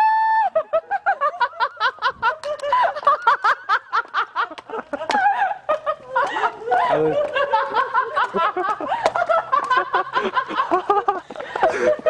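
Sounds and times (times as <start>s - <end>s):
person laughing: 0.4s - 12.0s.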